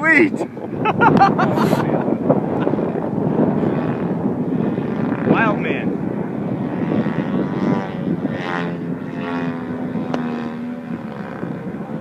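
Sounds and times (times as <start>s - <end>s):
model aeroplane engine drone: 0.0s - 12.0s
wind on microphone: 0.0s - 12.0s.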